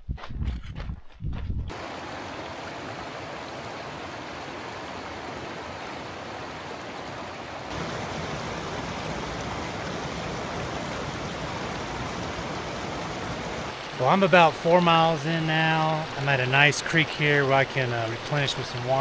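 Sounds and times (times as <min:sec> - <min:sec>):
creek water rushing: 0:01.7 - 0:19.0.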